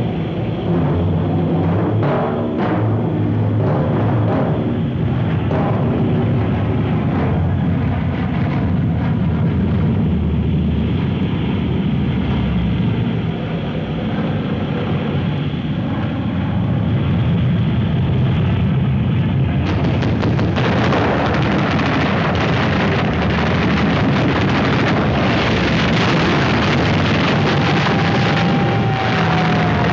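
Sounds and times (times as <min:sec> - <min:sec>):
aircraft engines droning overhead: 0:00.0 - 0:29.9.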